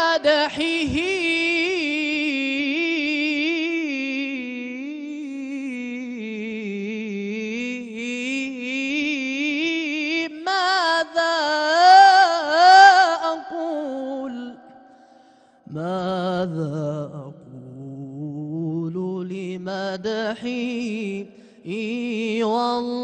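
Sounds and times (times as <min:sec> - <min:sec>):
man singing a religious hymn: 0:00.0 - 0:14.7, 0:15.6 - 0:23.0.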